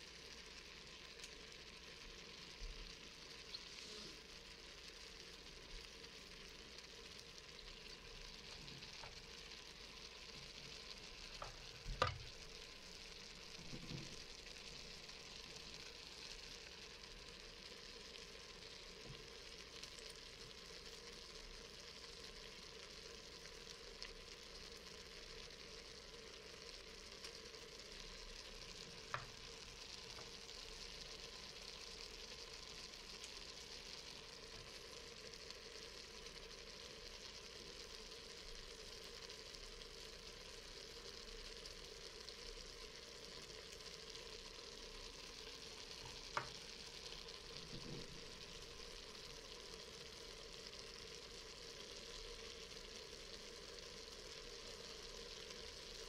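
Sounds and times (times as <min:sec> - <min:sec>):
vegetables sizzling in a pot: 0:00.0 - 0:56.0.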